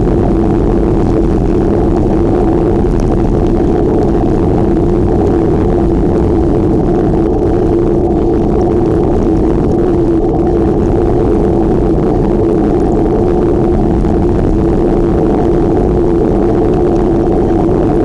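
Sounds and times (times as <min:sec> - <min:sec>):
low rumble: 0:00.0 - 0:18.0
steady hum: 0:00.0 - 0:18.0
wind rushing on microphone: 0:00.0 - 0:18.0.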